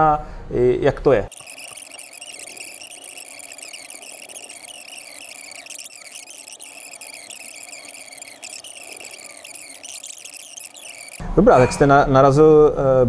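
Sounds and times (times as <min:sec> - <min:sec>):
crickets chirping: 0:01.3 - 0:11.8.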